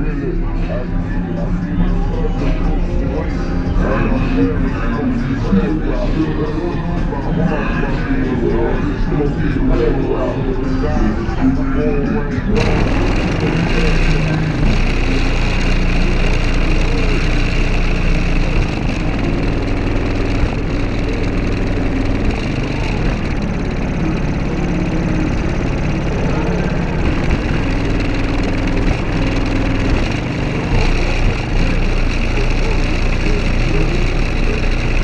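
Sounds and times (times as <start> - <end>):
subwoofers playing deep bass: 0.0 - 35.0.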